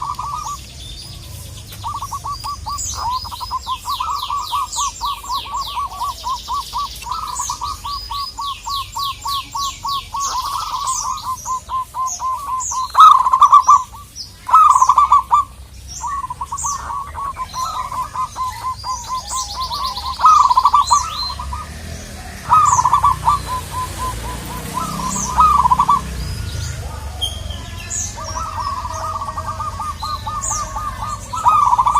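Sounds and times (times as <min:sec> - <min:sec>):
dove cooing: 0:00.0 - 0:31.9
small birds chirping and trilling: 0:00.0 - 0:31.9.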